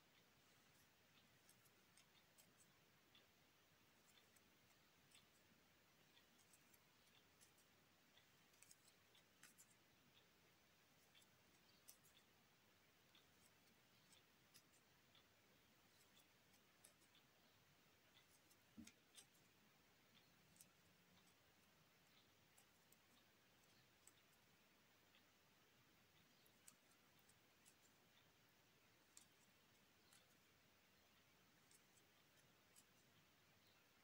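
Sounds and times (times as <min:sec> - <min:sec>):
crochet hook ticking in yarn: 0:00.0 - 0:34.0.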